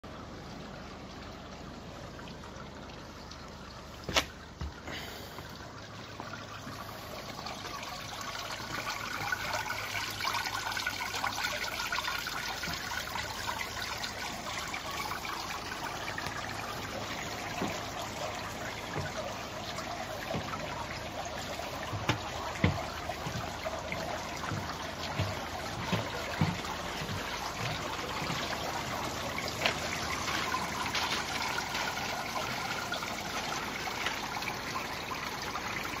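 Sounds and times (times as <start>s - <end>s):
water running and splashing: 1.2s - 36.0s.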